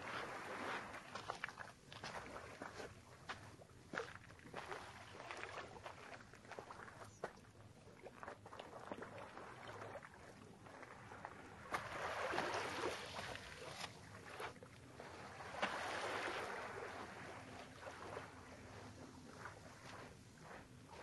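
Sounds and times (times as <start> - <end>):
small waves washing on shore: 0.0 - 7.3, 7.9 - 21.0.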